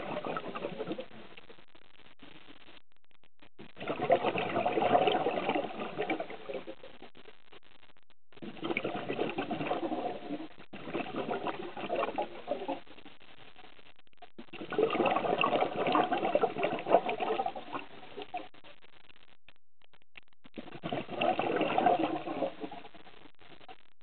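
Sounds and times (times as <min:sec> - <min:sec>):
underwater regulator bubbling: 0:00.0 - 0:02.7, 0:03.5 - 0:07.7, 0:08.4 - 0:18.6, 0:20.5 - 0:23.6.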